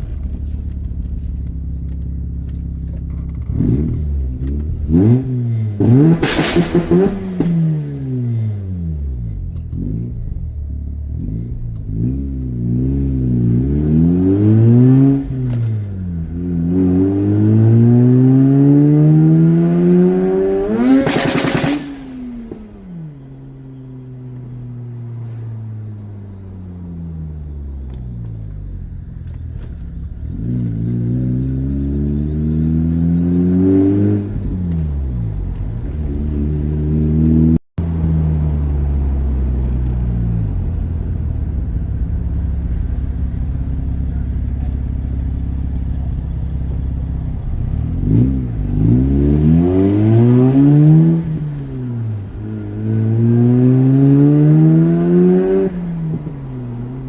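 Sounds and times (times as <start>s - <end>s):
rotary engine accelerating: 1.9s - 10.4s, 11.0s - 28.0s, 29.2s - 57.0s.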